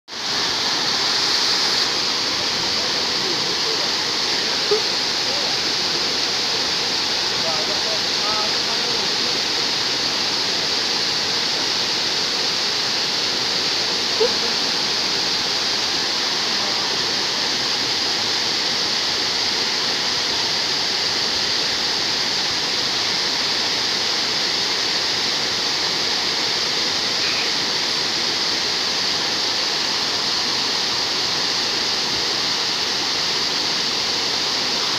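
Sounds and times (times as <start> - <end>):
waterfall: 0.1 - 34.9.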